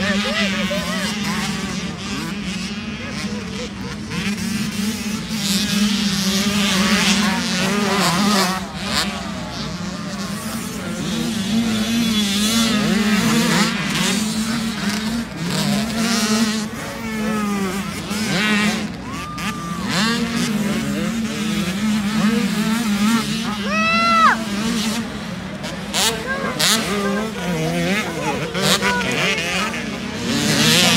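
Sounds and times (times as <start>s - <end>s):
dirt bike engines revving: 0.0s - 30.9s
steady engine drone: 0.0s - 30.9s.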